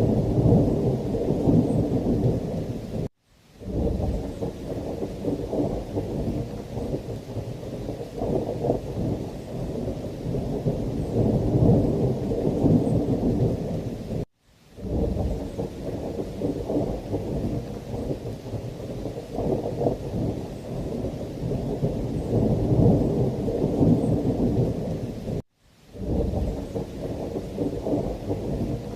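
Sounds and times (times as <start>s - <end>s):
thunder rumbling: 0.0s - 25.4s, 26.0s - 28.9s
heavy rain: 0.0s - 28.9s.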